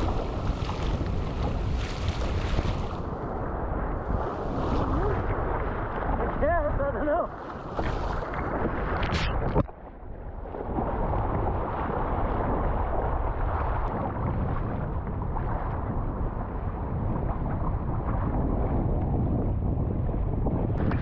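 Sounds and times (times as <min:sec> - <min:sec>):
water washing around kayak: 0:00.0 - 0:19.3
wind buffeting microphone: 0:00.0 - 0:21.0.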